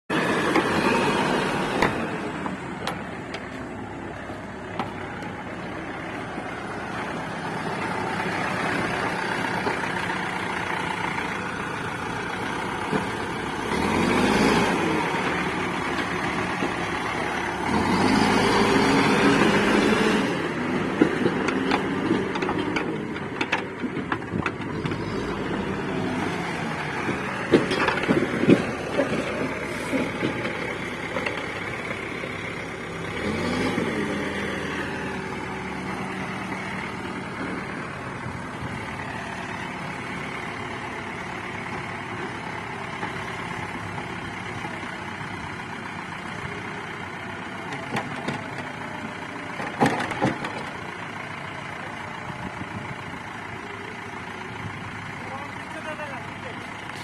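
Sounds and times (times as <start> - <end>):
diesel engine running: 0.1 - 57.0.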